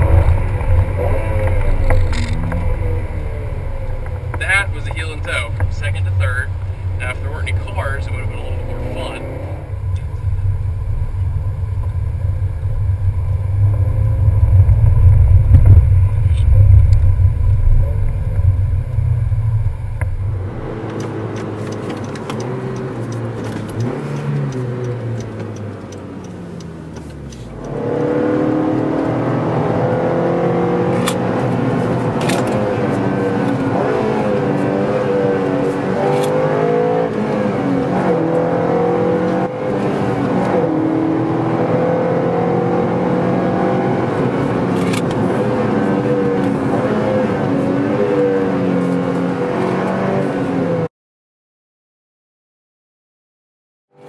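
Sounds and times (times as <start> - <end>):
car engine droning while driving: 0.0 - 50.9.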